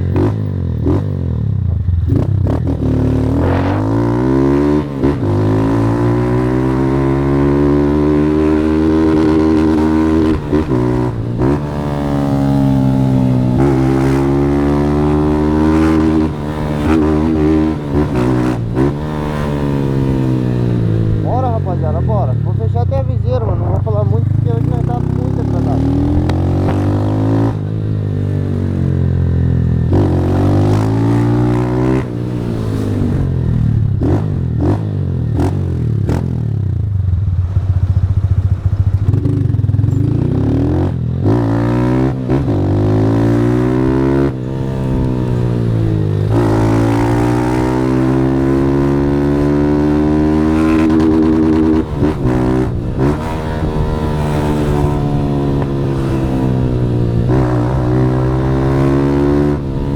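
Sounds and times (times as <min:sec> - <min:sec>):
motorcycle accelerating: 0:00.0 - 0:59.9.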